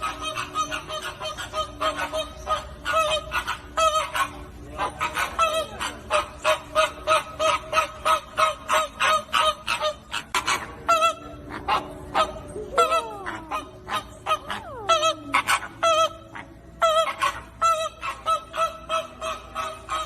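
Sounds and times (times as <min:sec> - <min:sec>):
flamingo flock honking: 0:00.0 - 0:20.0.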